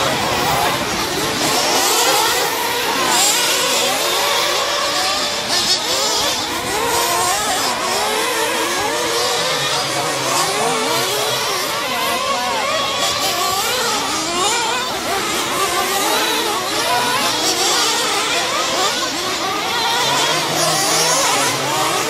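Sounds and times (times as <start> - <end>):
rc truck motors revving: 0.0 - 22.0.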